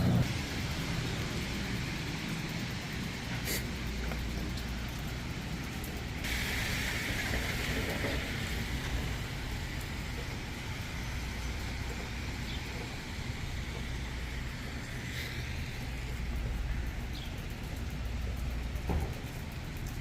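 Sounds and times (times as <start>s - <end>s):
low steady rumble: 0.0s - 20.0s
tyres hissing on wet road: 0.0s - 20.0s.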